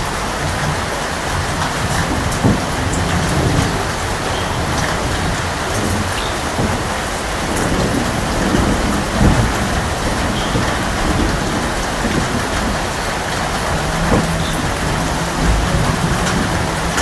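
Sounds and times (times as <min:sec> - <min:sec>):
heavy rain falling: 0:00.0 - 0:17.0
rolling thunder: 0:00.0 - 0:17.0.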